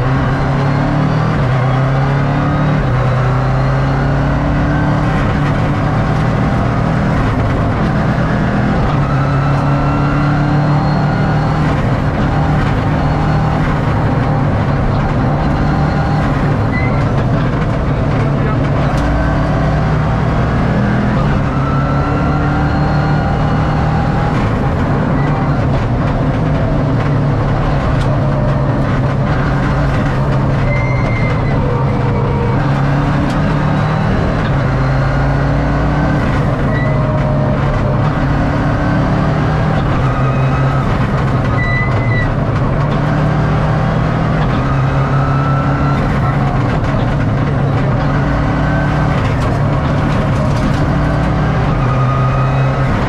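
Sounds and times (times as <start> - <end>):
rally car engine running: 0.0 - 53.0
road and drivetrain noise: 0.0 - 53.0.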